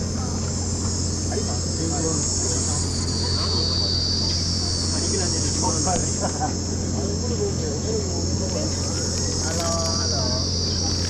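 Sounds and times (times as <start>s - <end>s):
faint background voices: 0.0s - 11.0s
high-pitched insect chorus: 0.0s - 11.0s
low steady hum: 0.0s - 11.0s.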